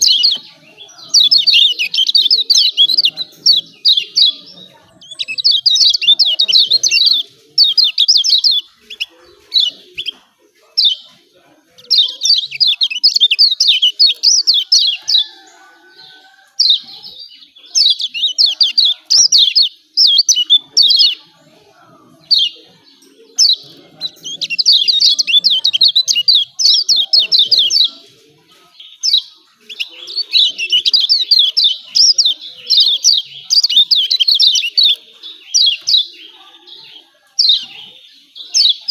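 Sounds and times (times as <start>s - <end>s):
bird chattering call: 0.0s - 11.1s, 11.8s - 15.4s, 16.6s - 21.3s, 23.4s - 28.0s, 28.8s - 36.2s.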